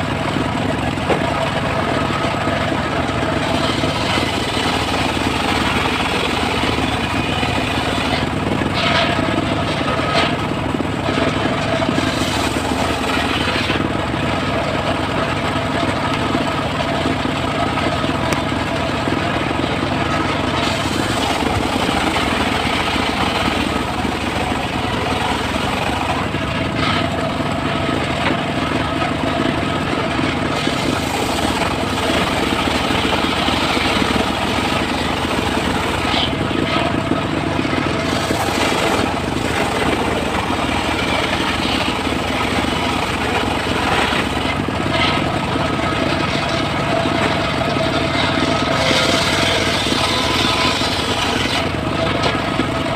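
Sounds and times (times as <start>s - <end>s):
saw blade whine: 0.0s - 52.9s
sawmill cutting wood: 0.0s - 52.9s.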